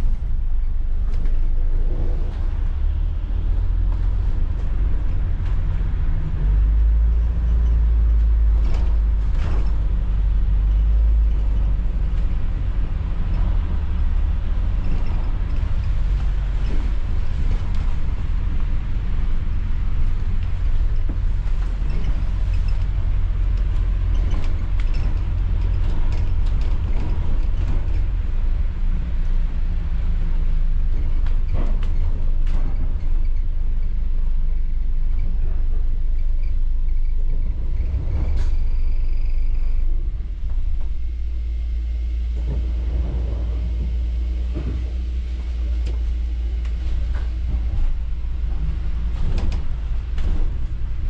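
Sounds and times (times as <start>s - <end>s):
bus engine rumbling: 0.0s - 51.0s
bodywork knocks and rattles: 1.0s - 39.3s, 46.7s - 51.0s.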